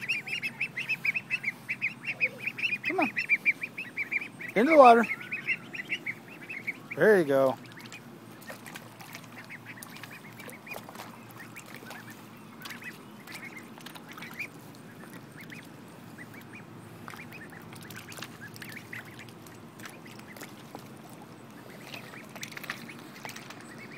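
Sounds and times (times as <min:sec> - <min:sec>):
ducklings cheeping and quacking: 0:00.0 - 0:23.9
small water splashes: 0:00.0 - 0:23.9.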